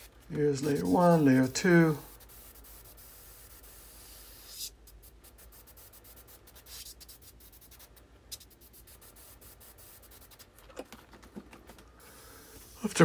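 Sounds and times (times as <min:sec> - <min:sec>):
airbrush spray hiss: 0:00.0 - 0:10.5, 0:12.0 - 0:13.0.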